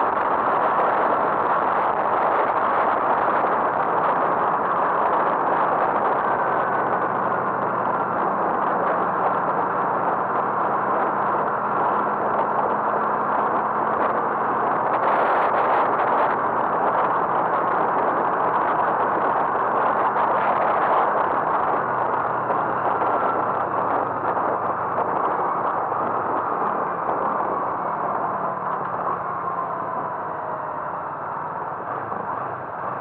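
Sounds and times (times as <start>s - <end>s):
road noise: 0.0s - 33.0s
vehicle engine hum: 0.0s - 33.0s.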